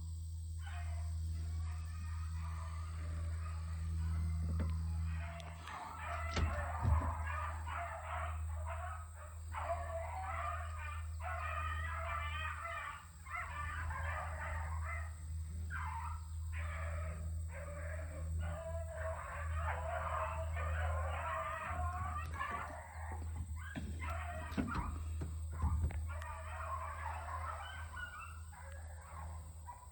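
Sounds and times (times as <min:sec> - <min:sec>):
steady low hum: 0:00.0 - 0:29.9
hounds barking and baying: 0:00.6 - 0:29.9.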